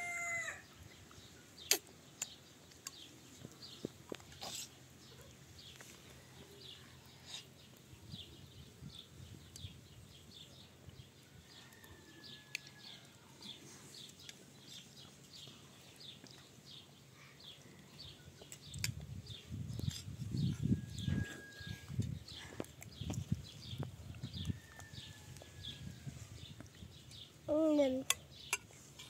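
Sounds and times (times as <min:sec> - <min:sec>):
birds chirping: 0:00.0 - 0:28.6.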